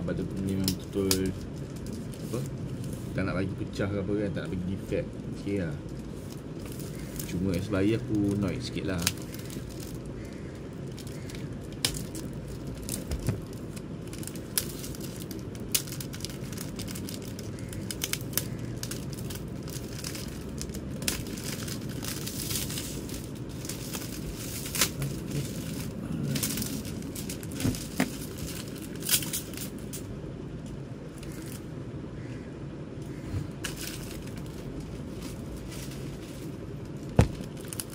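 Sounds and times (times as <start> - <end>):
plastic wrapping crinkling and tearing: 0.1 - 3.3, 5.3 - 30.1, 33.6 - 37.9.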